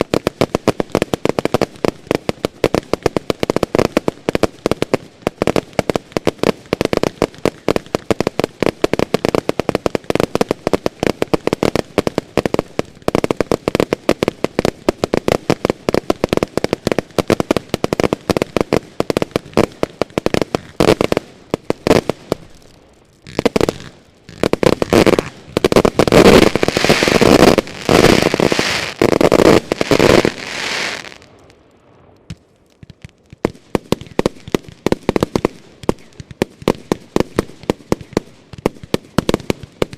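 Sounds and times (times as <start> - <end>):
crackling firework bursts: 0.0 - 39.9
fireworks firing: 0.0 - 39.9.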